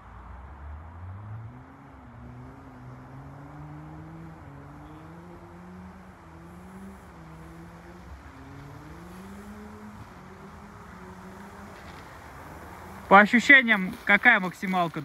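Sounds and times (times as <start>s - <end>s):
tyres rushing on snow: 0.0s - 15.0s.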